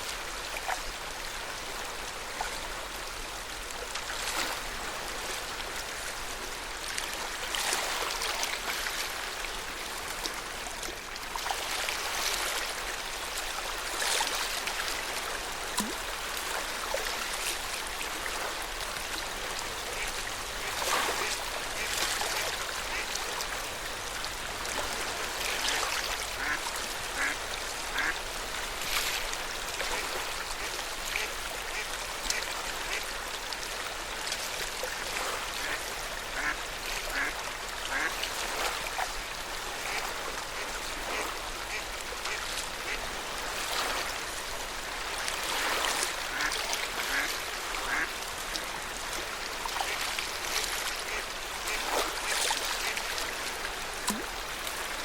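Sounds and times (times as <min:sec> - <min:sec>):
water lapping at shore: 0:00.0 - 0:55.0.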